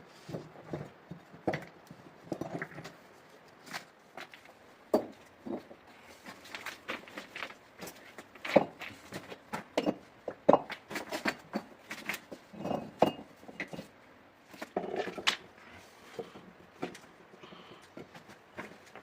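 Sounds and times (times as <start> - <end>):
knocks clatters and scuffs: 0.2 - 15.4, 17.8 - 19.0.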